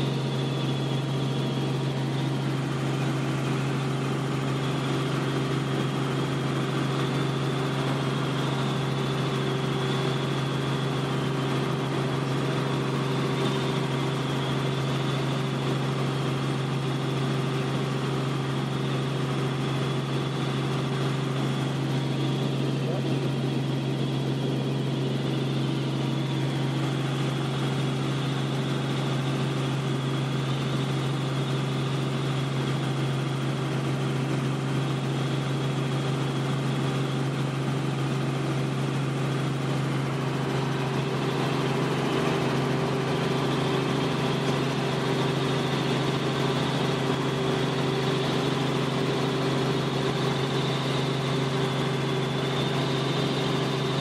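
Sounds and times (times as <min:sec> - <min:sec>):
helicopter engine and rotors drone: 0:00.0 - 0:54.0.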